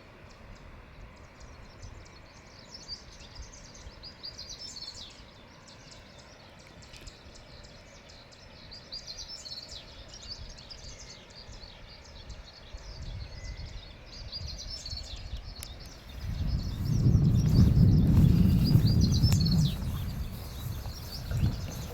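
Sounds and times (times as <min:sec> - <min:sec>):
small birds chirping: 0:01.2 - 0:21.9.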